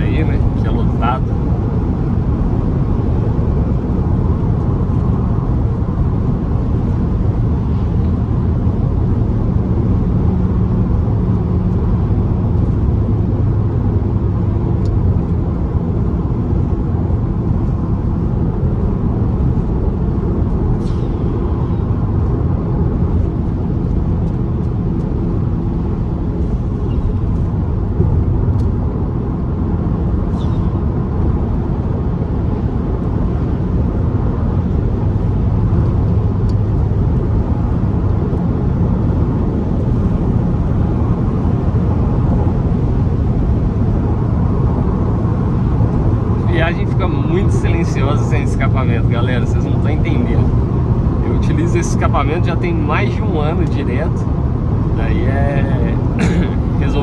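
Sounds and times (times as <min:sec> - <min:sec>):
car engine drone: 0:00.0 - 0:57.0
road noise: 0:00.0 - 0:57.0.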